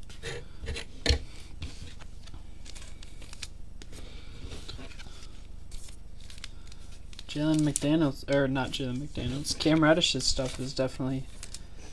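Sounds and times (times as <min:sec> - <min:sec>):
trading cards shuffled by hand: 0:01.6 - 0:11.9.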